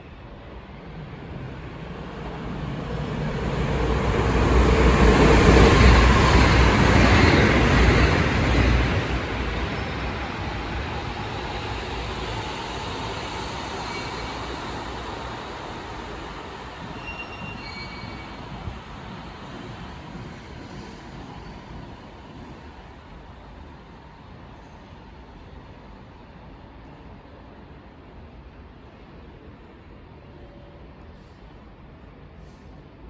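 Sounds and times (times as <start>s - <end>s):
passenger train passing: 0.0s - 33.0s.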